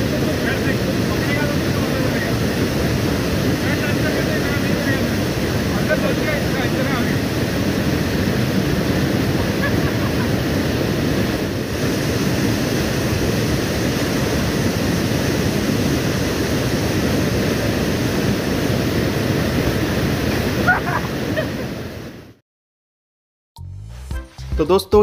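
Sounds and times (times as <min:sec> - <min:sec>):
waterfall rushing into pool: 0:00.0 - 0:22.4.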